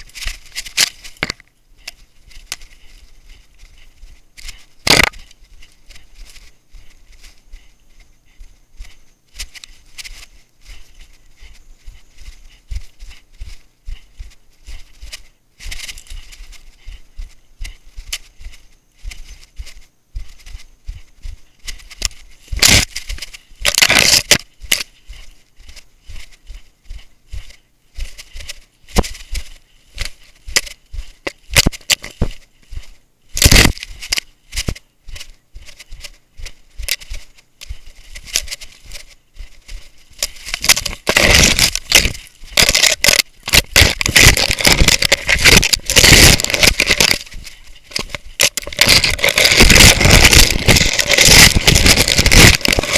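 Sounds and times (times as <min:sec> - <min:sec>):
brush scraping and crackling: 0:00.0 - 0:52.9.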